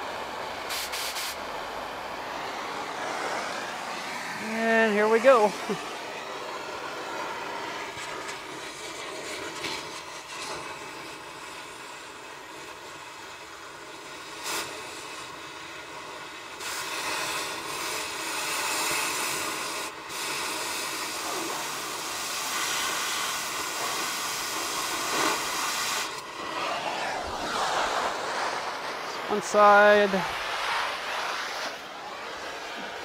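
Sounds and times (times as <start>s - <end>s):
gas cutting torch hissing: 0.0s - 33.0s.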